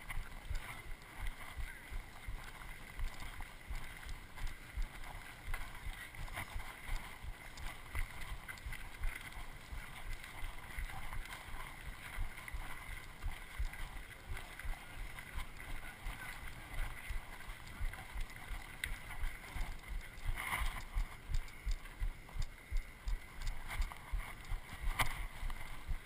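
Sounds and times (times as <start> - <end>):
footsteps on gravel trail: 0.0 - 26.0.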